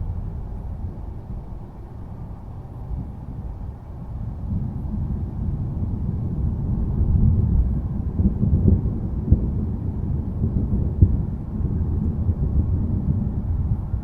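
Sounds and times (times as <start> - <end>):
distant thunder rumbling: 0.0 - 14.0.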